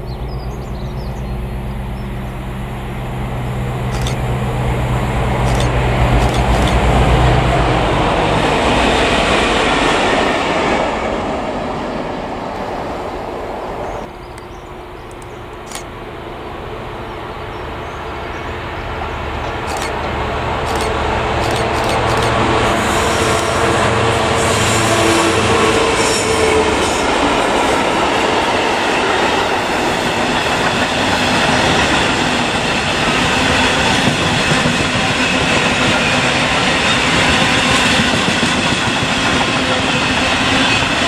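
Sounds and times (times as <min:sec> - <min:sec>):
diesel locomotive engine drone: 0:00.0 - 0:41.0
train wheels rumbling on rail: 0:00.0 - 0:41.0.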